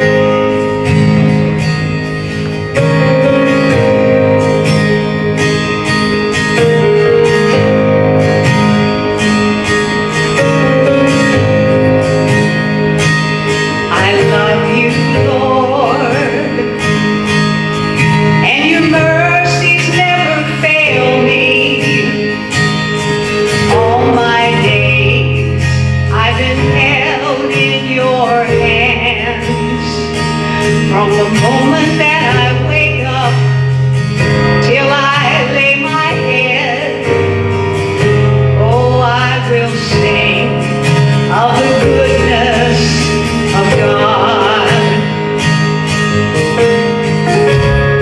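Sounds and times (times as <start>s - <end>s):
person singing: 0.0s - 22.8s, 23.5s - 33.8s, 38.5s - 48.0s
guitar: 0.0s - 48.0s
sustained chords: 0.0s - 48.0s.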